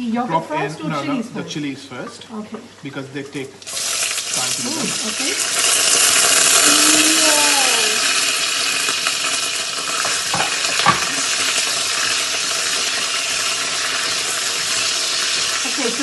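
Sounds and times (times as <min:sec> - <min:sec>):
chilies sizzling in hot oil: 0:02.8 - 0:16.0.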